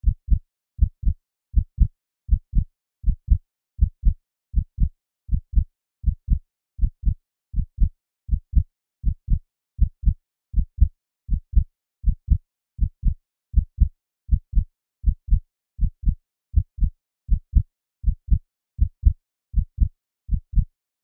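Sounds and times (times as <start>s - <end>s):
heartbeat thumps: 0.0s - 20.7s.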